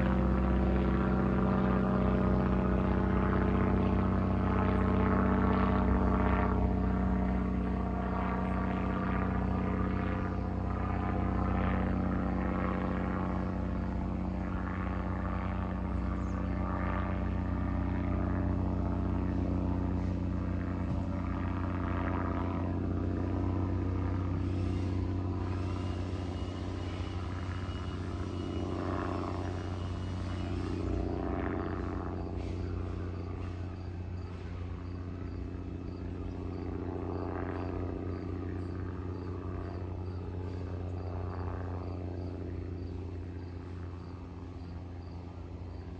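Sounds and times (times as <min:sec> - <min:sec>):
propeller plane droning overhead: 0:00.0 - 0:45.9.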